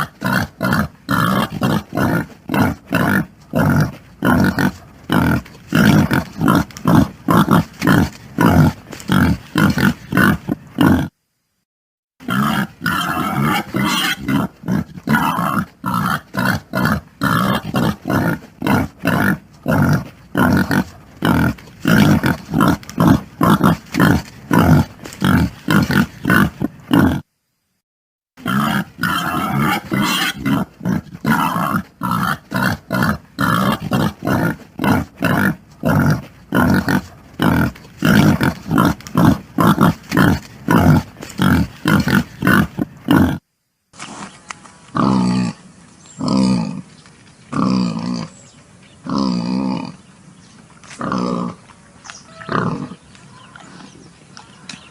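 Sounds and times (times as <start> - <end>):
pigs grunting: 0.0 - 11.1, 12.2 - 27.2, 28.4 - 43.4, 46.2 - 46.8, 47.5 - 48.4, 49.0 - 50.0, 50.9 - 51.6, 52.3 - 53.0.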